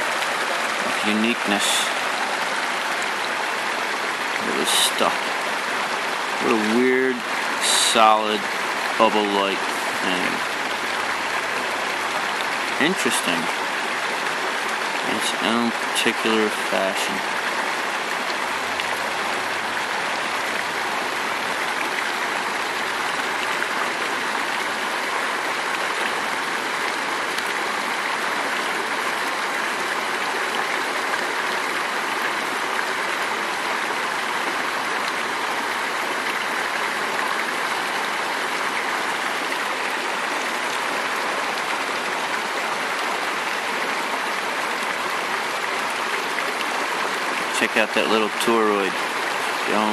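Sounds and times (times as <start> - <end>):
river flowing: 0.0 - 49.9.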